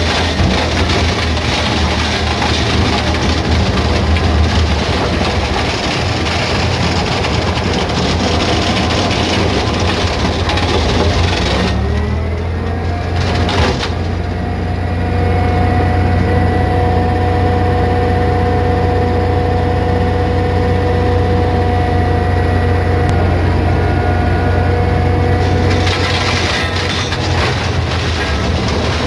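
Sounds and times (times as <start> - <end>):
branch shredder running: 0.0 - 29.0.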